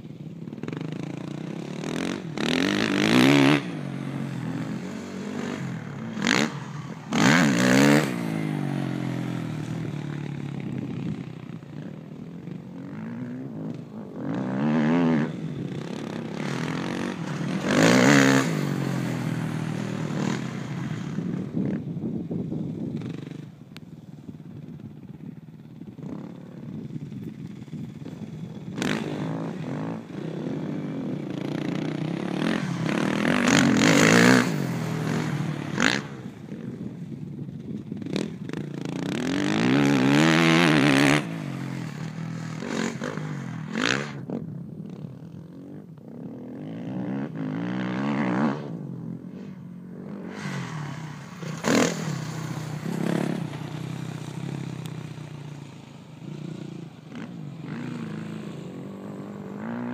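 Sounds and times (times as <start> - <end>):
dirt bike engine revving: 0.5 - 21.8, 25.9 - 37.2, 38.0 - 44.5, 45.1 - 59.9.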